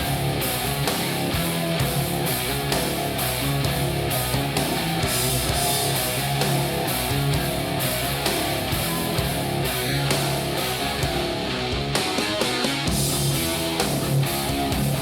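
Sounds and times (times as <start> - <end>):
rock music through speaker: 0.0 - 15.0.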